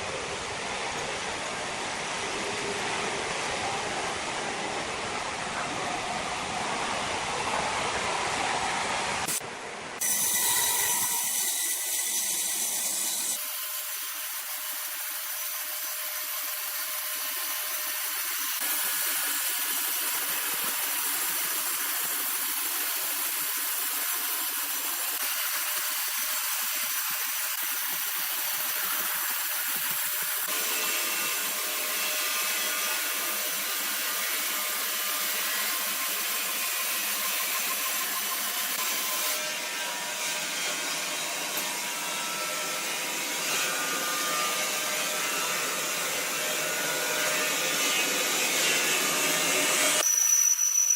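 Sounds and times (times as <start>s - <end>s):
sawmill machinery whirring: 6.0s - 50.9s.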